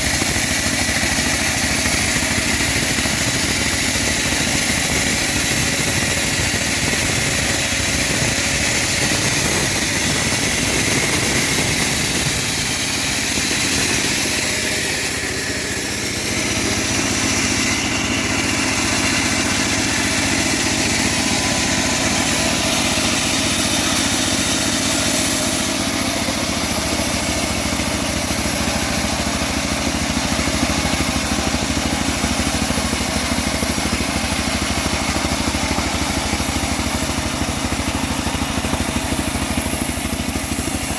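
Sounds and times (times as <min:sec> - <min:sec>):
band sawmill sawing log: 0:00.0 - 0:40.9.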